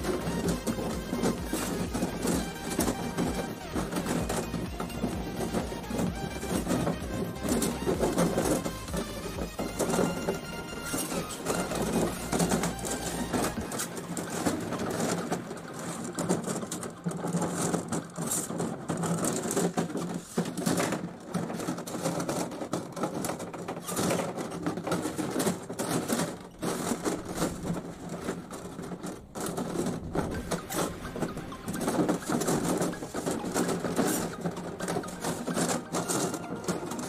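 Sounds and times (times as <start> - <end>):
copper tubing clicking and rubbing: 0.0 - 37.0.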